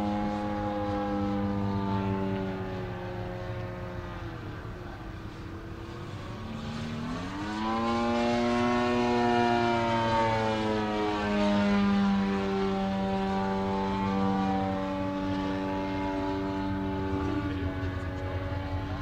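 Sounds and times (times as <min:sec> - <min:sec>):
model plane propeller droning: 0:00.0 - 0:19.0.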